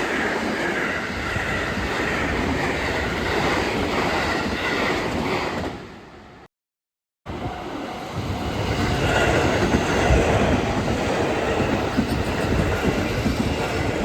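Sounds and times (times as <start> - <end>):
train wheels on rails: 0.0 - 6.2, 7.3 - 14.0.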